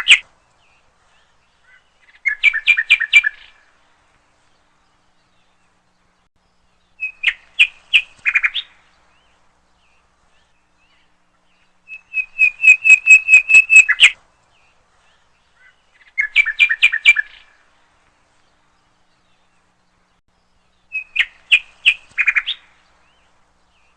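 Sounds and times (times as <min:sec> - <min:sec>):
songbird chirping: 0:00.0 - 0:23.9.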